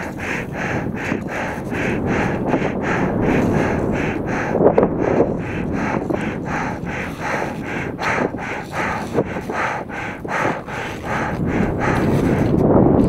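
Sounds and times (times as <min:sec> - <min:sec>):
person breathing hard: 0:00.0 - 0:12.8
wind on microphone: 0:00.0 - 0:13.0.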